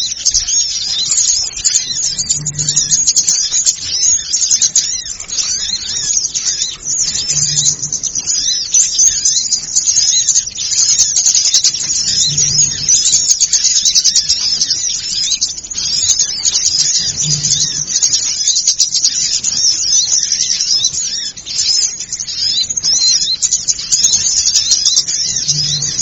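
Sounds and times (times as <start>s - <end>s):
small birds chirping and twittering: 0.0s - 26.0s.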